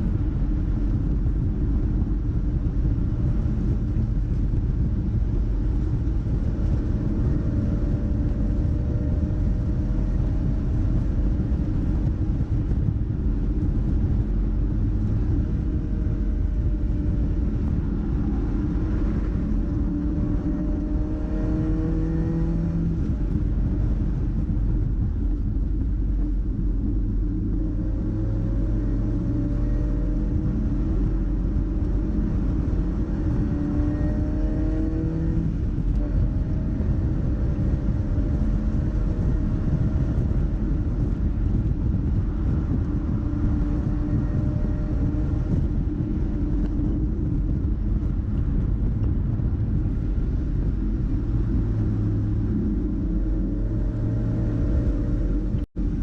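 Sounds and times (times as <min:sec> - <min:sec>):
car engine revving: 0:00.0 - 0:56.0
heavy rumble: 0:00.0 - 0:56.0.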